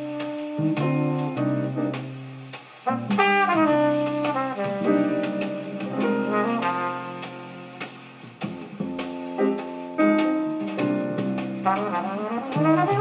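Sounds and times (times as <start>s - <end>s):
jazz with horns over loudspeakers: 0.0s - 13.0s.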